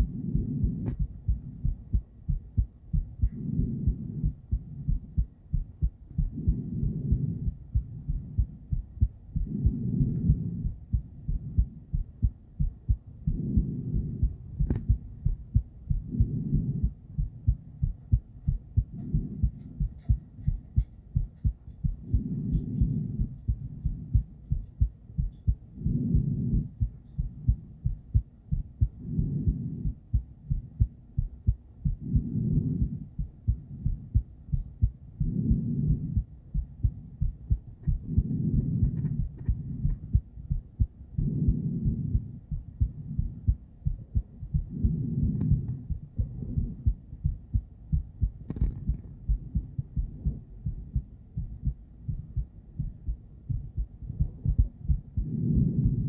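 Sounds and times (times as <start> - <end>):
muffled heartbeat through doppler: 0.0 - 56.0.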